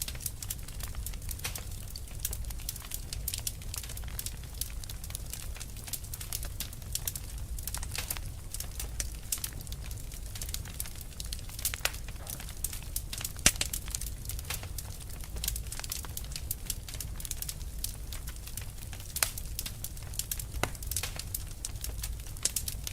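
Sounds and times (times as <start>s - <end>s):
fire crackling and popping: 0.0s - 22.9s.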